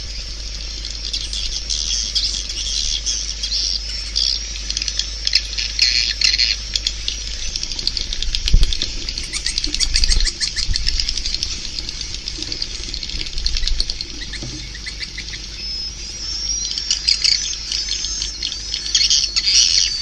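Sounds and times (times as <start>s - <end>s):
swiftlets twittering: 0.0s - 20.0s.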